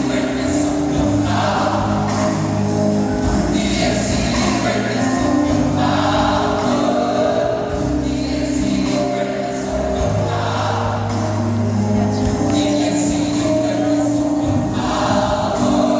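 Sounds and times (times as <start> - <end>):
gospel choir singing: 0.0 - 15.9.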